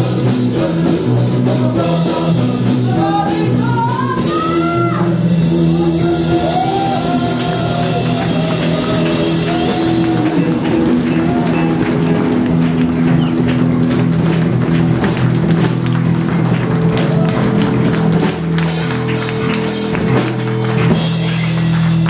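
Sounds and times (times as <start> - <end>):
drums: 0.0 - 22.0
guitar: 0.0 - 22.0
live rock band: 0.0 - 22.0.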